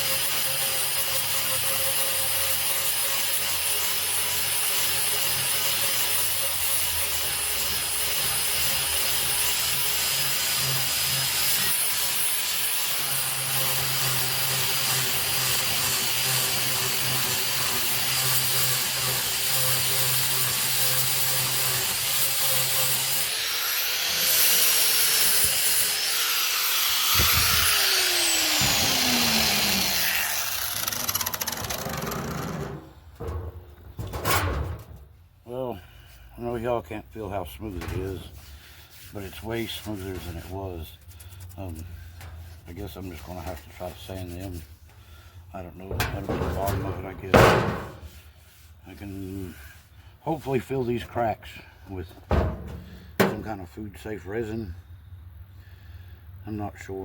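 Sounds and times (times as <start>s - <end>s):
angle grinder sanding wood: 0.0s - 33.3s, 36.4s - 44.8s, 45.6s - 51.2s.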